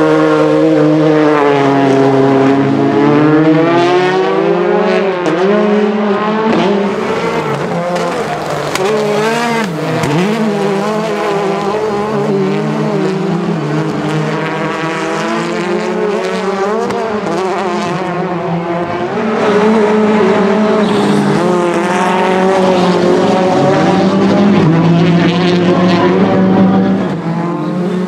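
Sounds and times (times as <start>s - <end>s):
rally car engine revving hard: 0.0s - 28.0s.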